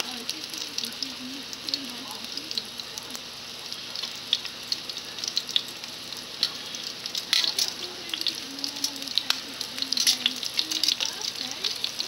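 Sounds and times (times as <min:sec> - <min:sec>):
chicken frying in hot oil: 0:00.0 - 0:12.0
oil crackling and popping: 0:00.0 - 0:12.0.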